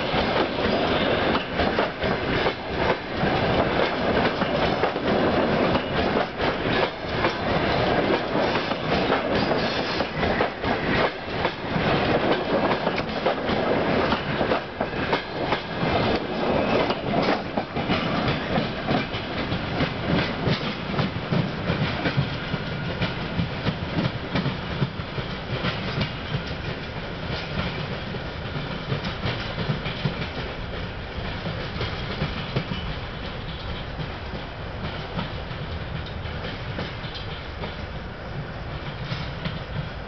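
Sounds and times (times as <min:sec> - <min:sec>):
train rumble: 0:00.0 - 0:40.0
train wheels clickety-clack: 0:00.0 - 0:40.0.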